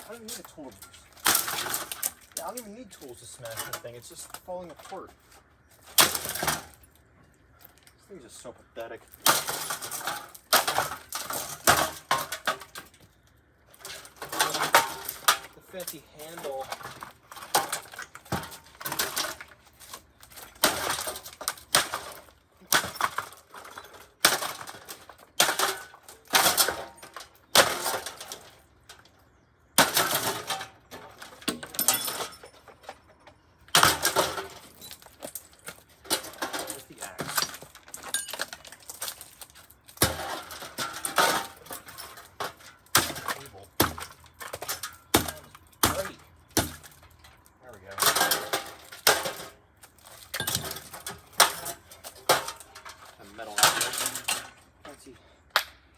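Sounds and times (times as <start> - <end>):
plastic and metal parts breaking: 0.0 - 8.0, 9.0 - 55.7.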